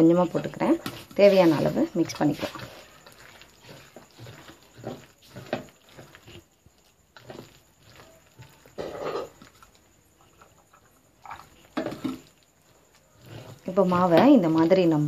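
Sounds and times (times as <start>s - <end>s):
hand squelching batter in bowl: 0.0s - 15.0s.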